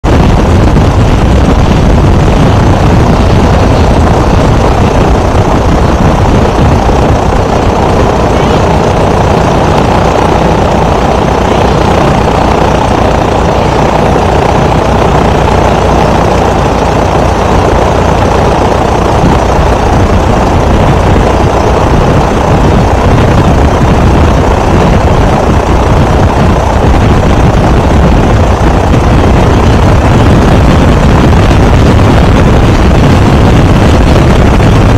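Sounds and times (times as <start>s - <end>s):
plane engine and propeller: 0.0s - 34.9s.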